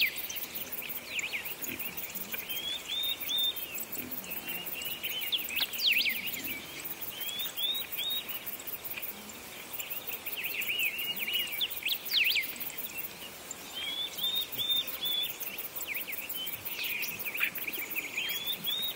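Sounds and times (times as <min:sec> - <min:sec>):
faint steady hiss: 0:00.0 - 0:18.9
songbirds chirping: 0:00.0 - 0:18.9.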